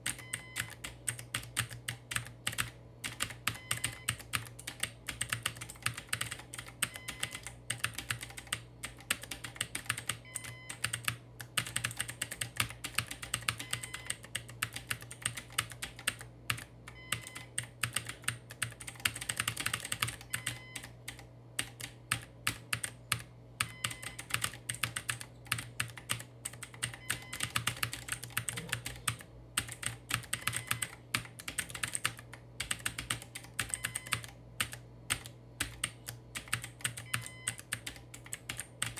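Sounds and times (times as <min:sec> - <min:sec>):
fast typing on keyboard: 0:00.0 - 0:38.9
low steady hum: 0:00.0 - 0:38.9.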